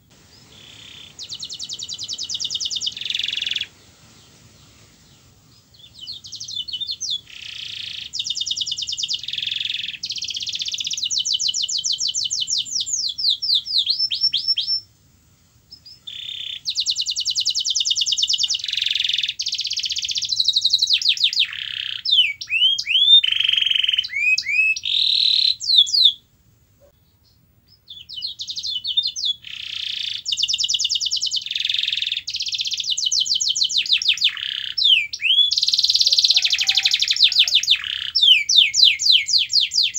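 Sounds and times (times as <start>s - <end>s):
canary singing trills: 0.0s - 14.9s, 15.7s - 26.2s, 26.8s - 39.9s.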